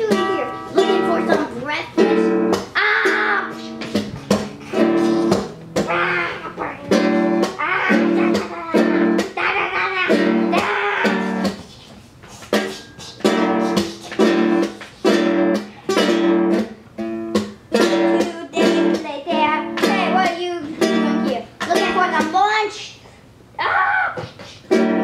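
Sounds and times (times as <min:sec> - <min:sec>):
plucked string instrument strumming: 0:00.0 - 0:11.6, 0:12.5 - 0:22.4, 0:24.7 - 0:25.0.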